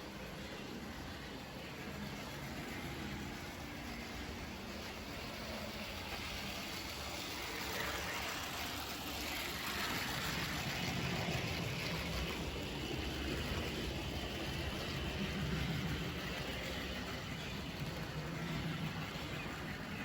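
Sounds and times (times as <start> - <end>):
model train motor whirring: 0.0 - 20.0
wheels rumbling on rail: 0.0 - 20.0.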